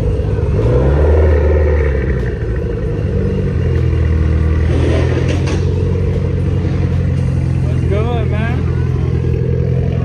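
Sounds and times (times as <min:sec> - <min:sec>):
car engine pulling away: 0:00.0 - 0:10.0.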